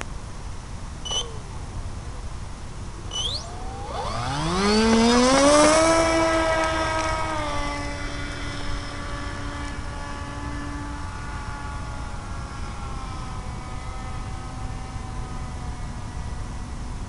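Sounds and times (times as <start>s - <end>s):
electric motor and propeller whine: 0.3s - 17.0s.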